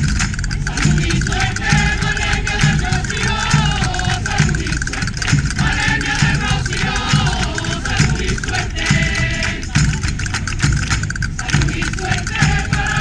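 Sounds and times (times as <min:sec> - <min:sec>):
rhythmic hand clapping: 0:00.0 - 0:13.0
women singing together: 0:00.6 - 0:10.2, 0:11.4 - 0:13.0.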